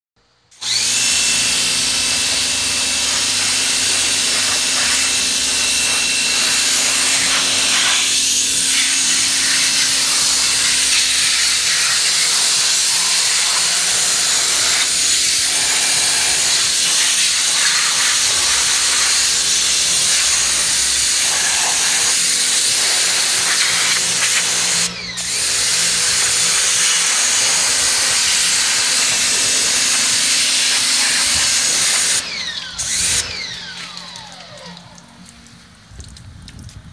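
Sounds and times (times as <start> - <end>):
pressure washer spraying water: 0.6 - 35.8.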